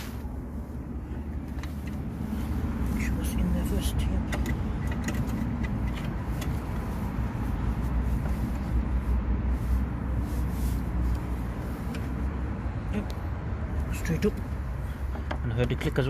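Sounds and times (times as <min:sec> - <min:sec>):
steady low rumble: 0:00.0 - 0:15.1.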